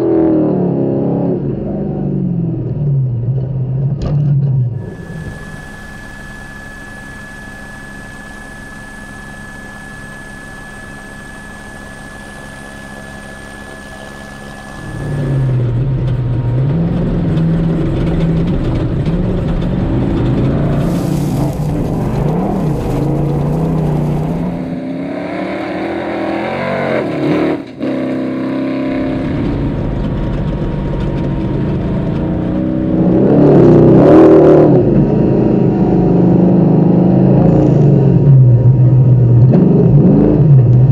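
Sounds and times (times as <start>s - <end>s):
rally car engine revving: 0.0s - 7.6s, 10.2s - 40.9s.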